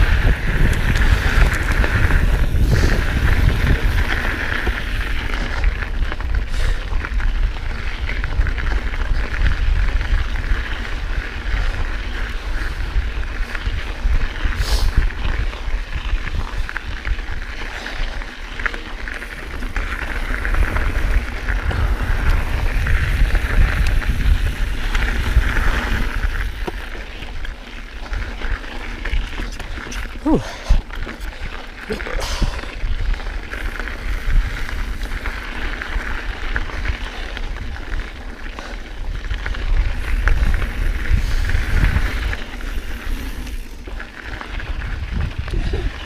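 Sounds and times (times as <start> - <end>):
bike tyre and frame rattle: 0.0 - 46.0
wind buffeting microphone: 0.0 - 46.0.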